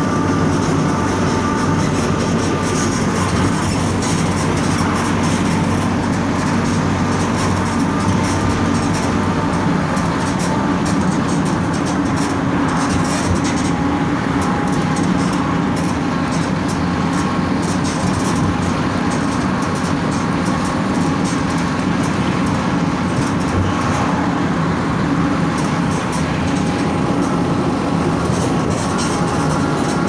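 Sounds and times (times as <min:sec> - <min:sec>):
diesel bus engine running: 0:00.0 - 0:30.0.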